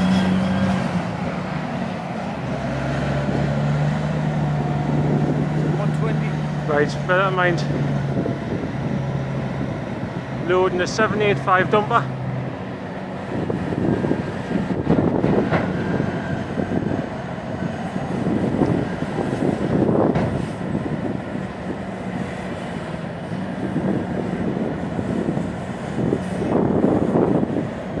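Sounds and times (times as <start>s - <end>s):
heavy diesel machinery rumbling: 0.0s - 28.0s.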